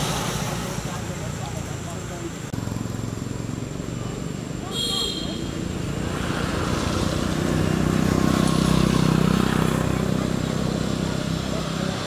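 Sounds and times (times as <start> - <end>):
motor vehicle passing by: 0.0 - 12.0.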